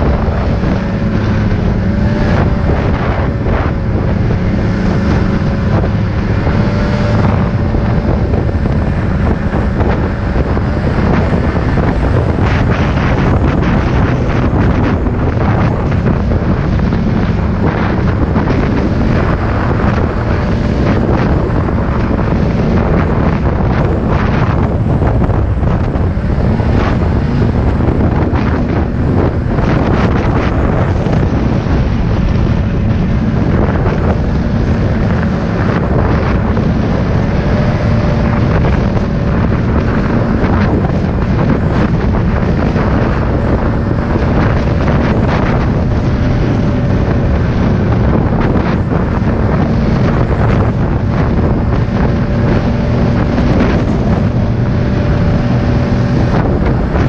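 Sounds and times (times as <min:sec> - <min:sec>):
snowmobile engine drone: 0:00.0 - 0:57.0
wind buffeting microphone: 0:00.0 - 0:57.0.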